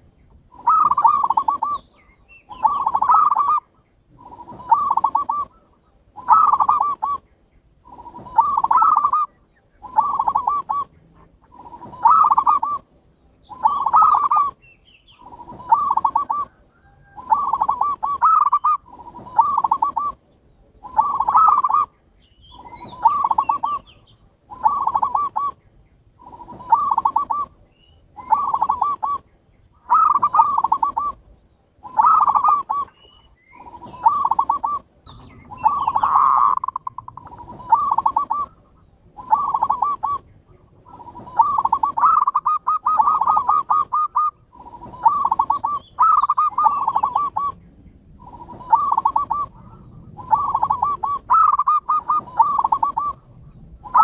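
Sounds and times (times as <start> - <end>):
dove cooing: 0.0 - 21.9, 22.5 - 54.0.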